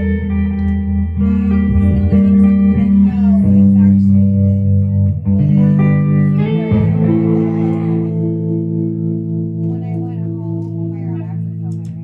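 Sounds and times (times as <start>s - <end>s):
guitar chords: 0.0s - 12.0s.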